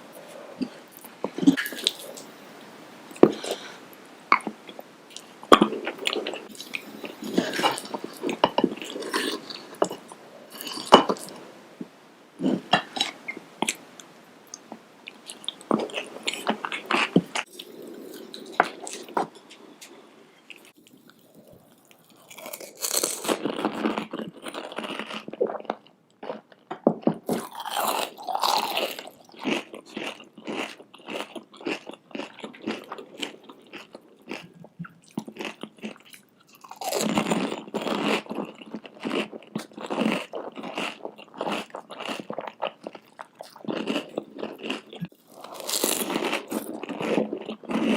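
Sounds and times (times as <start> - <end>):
crunching and chewing food: 4.4 - 11.4, 14.5 - 47.9.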